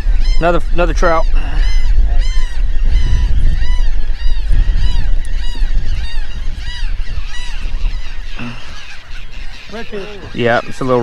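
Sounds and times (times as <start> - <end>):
honking bird calls: 0.0 - 11.0
wind buffeting microphone: 0.0 - 11.0.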